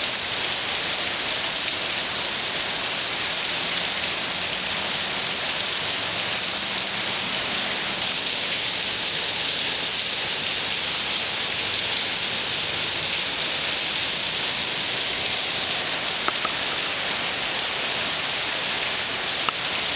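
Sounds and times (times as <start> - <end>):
steady hissing noise: 0.0 - 19.9.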